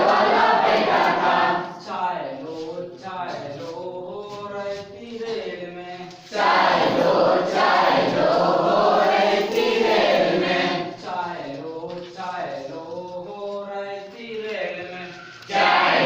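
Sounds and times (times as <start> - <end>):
group singing children's song: 0.0 - 16.0.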